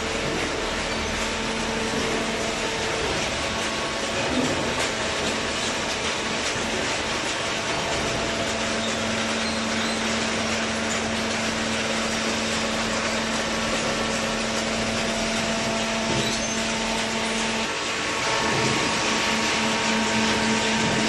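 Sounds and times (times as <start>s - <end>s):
hydraulic baler running: 0.0s - 21.0s.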